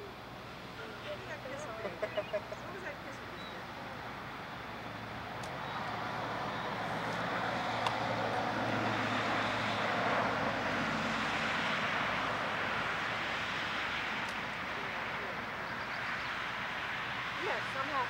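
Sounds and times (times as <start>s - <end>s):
vehicle passing by: 0.8s - 18.0s.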